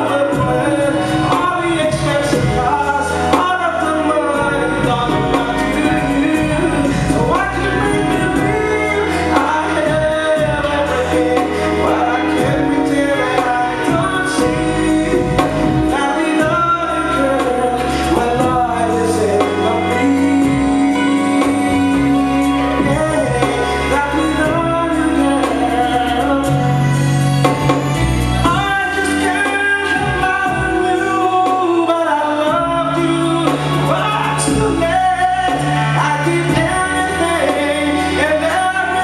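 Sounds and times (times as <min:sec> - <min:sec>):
instrumental backing music: 0:00.0 - 0:39.0
man singing into a microphone: 0:00.0 - 0:39.0
steady bass line: 0:00.0 - 0:39.0.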